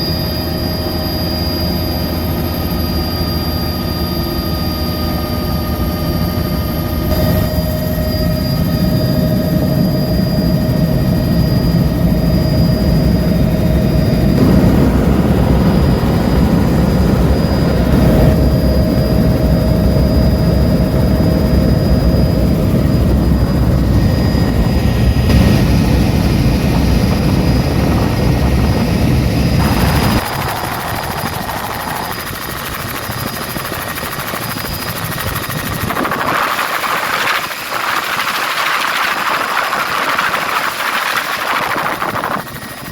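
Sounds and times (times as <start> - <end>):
helicopter rotor and turbine engine: 0.0 - 42.9.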